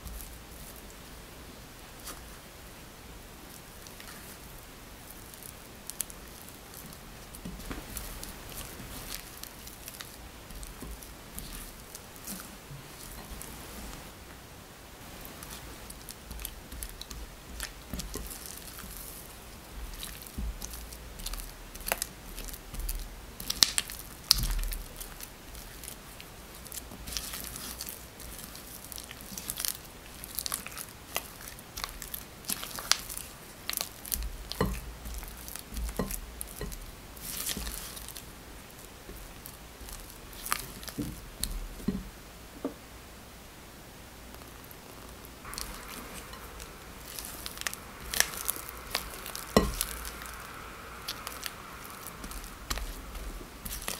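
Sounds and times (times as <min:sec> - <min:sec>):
spatula squishing sticky dough: 0:00.0 - 0:14.3, 0:15.0 - 0:42.2, 0:44.3 - 0:53.9.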